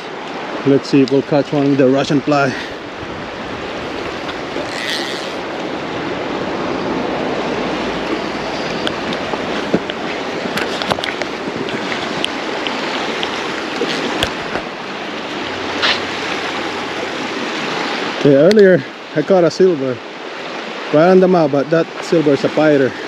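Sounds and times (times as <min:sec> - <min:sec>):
creek water rushing: 0:00.0 - 0:23.0
wind: 0:00.0 - 0:23.0.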